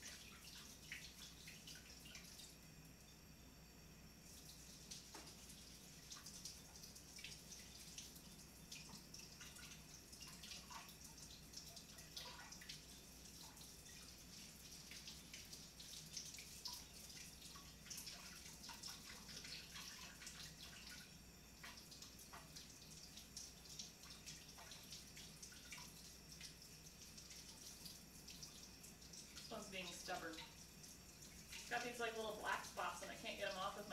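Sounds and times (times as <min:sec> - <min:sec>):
faucet running water: 0:00.0 - 0:33.9.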